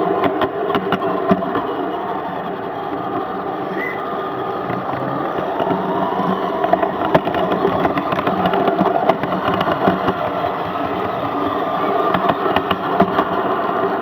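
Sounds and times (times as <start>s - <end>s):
steam locomotive hiss and rumble: 0.0s - 14.0s.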